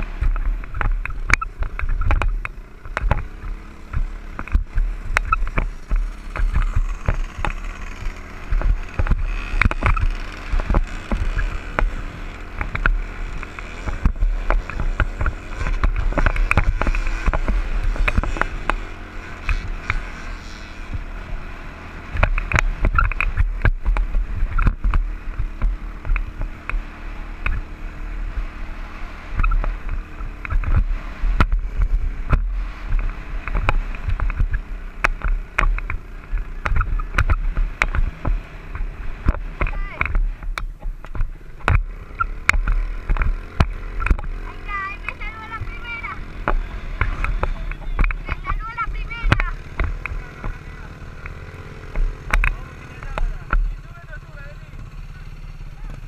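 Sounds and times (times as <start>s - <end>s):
dirt bike engine: 0.0s - 56.0s.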